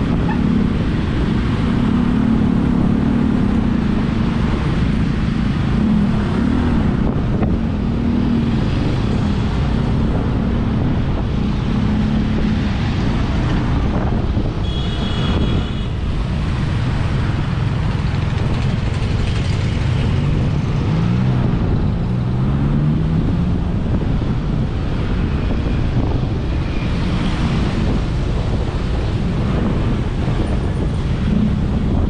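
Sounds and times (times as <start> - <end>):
vehicle road noise: 0.0 - 32.0
wind rushing over microphone: 0.0 - 32.0.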